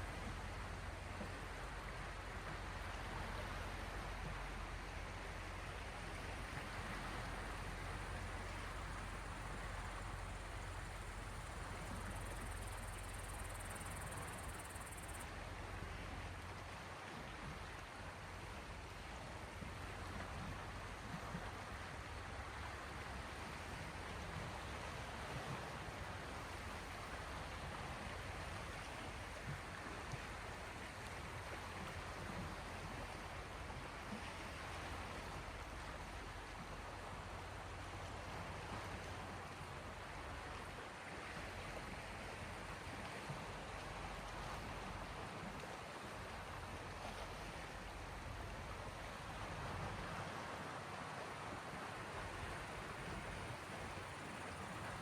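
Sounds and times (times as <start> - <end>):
waves lapping at shore: 0.0 - 55.0.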